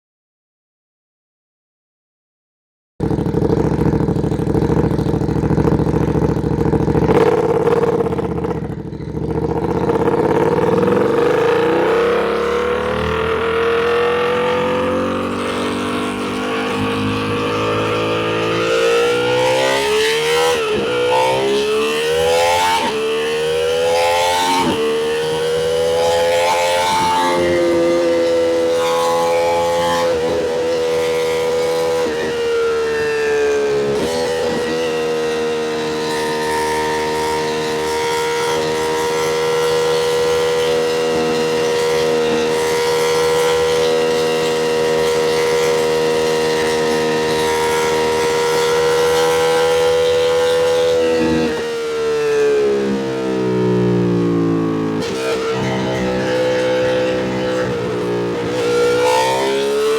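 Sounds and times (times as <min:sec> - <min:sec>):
motorcycle engine accelerating: 0:03.0 - 0:59.9.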